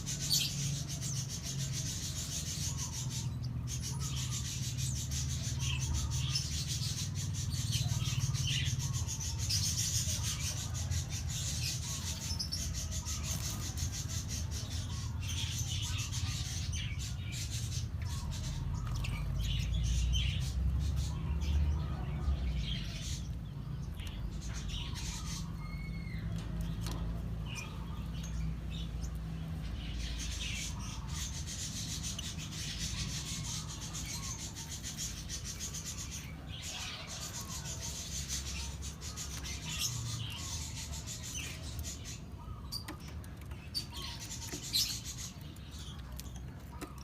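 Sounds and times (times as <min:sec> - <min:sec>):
lovebirds chirping: 0:00.0 - 0:47.0.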